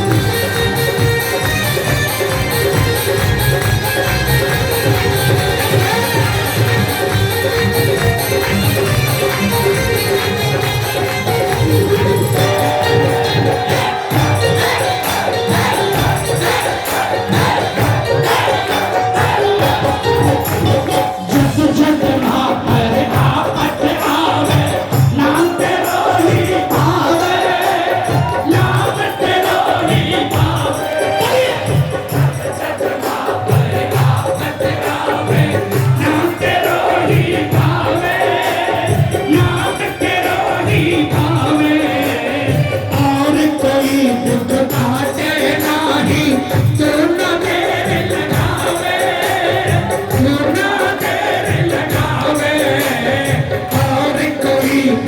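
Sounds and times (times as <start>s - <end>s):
steady drum beat: 0.0s - 55.0s
group singing devotional song: 2.7s - 55.0s.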